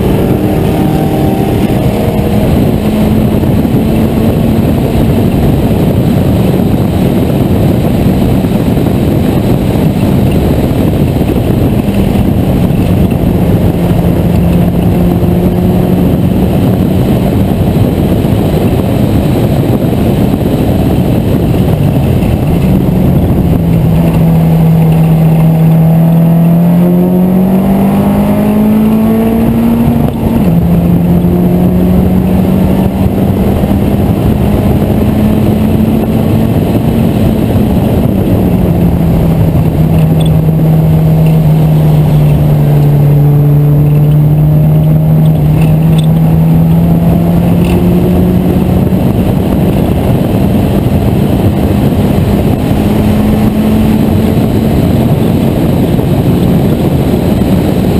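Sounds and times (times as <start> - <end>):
race car engine revving: 0.0 - 57.9
wind and road rush: 0.0 - 57.9.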